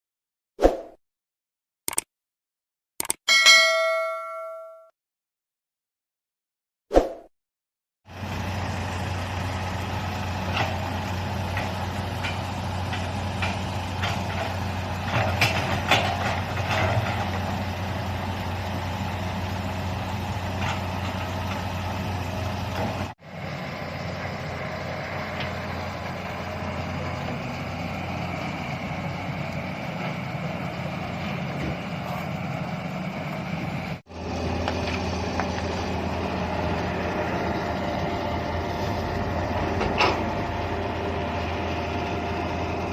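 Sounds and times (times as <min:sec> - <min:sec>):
diesel engine running: 0:08.1 - 0:42.9.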